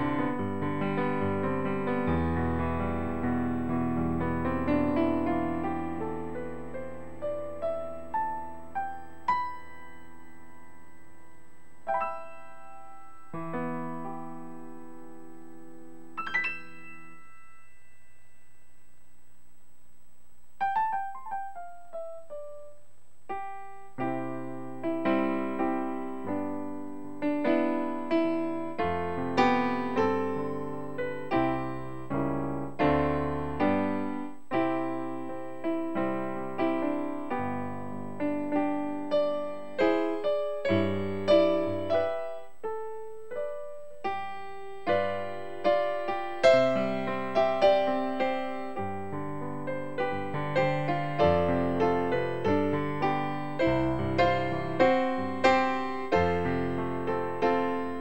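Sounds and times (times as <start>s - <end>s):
piano notes and chords: 0.0s - 19.1s, 20.6s - 58.0s.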